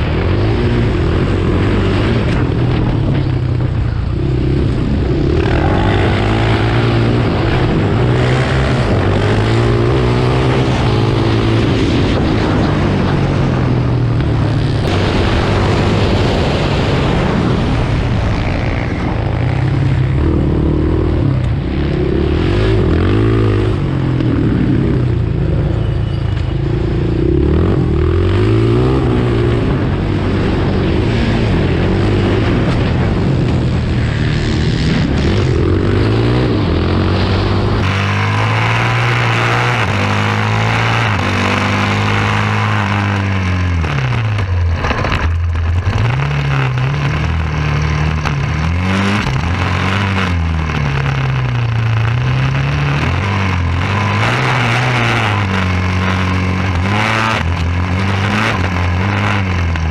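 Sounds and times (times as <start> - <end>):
quad engine revving: 0.0 - 25.7, 26.7 - 59.9
wind and road noise: 0.0 - 59.9.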